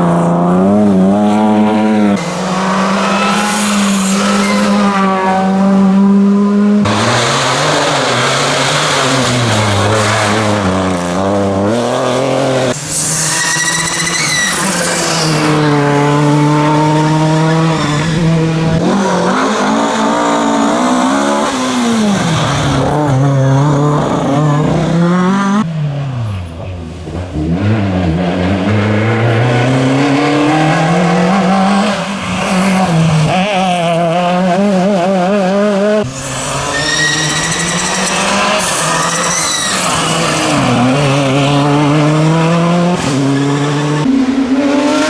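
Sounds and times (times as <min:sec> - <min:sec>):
rally car engines at full throttle: 0:00.0 - 0:45.0.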